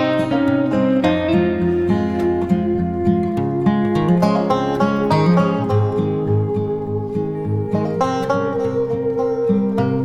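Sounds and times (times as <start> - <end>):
banjo: 0.0 - 10.0
plucked acoustic guitar: 0.0 - 10.0.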